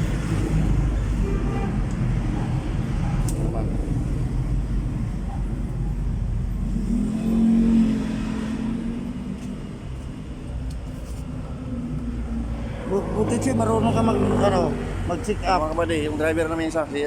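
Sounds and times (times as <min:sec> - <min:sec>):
vehicle engine revving: 0:00.0 - 0:10.9, 0:11.5 - 0:15.5.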